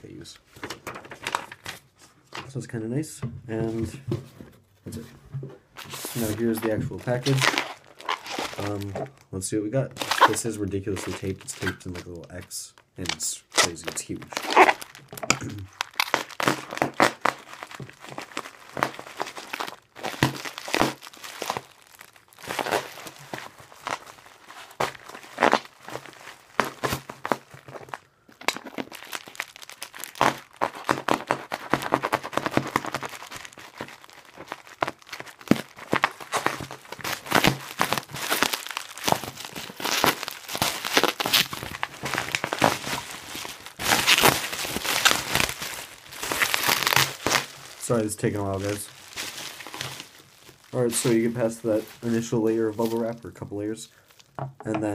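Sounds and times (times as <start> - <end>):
bubble wrap and tape crinkling: 0.0 - 2.6, 4.9 - 54.9.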